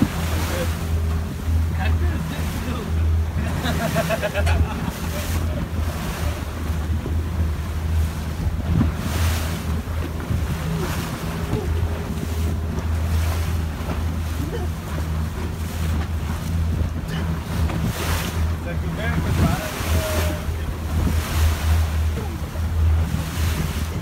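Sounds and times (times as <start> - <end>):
boat engine hum: 0.0 - 24.0
waves washing: 0.0 - 24.0
wind buffeting microphone: 0.0 - 24.0.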